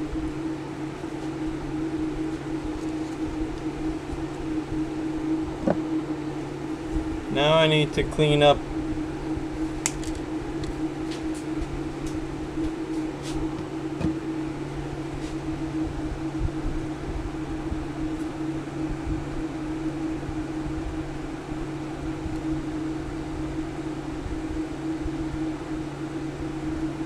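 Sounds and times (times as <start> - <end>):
fan-like hum: 0.0 - 27.0.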